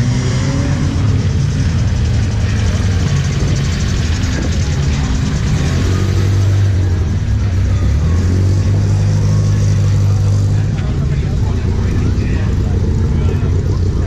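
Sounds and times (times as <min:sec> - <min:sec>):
car engine deep rumble: 0:00.0 - 0:14.0.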